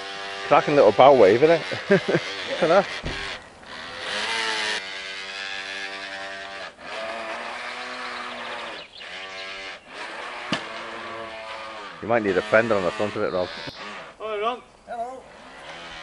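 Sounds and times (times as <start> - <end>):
model boat motor whining: 0.0 - 16.0.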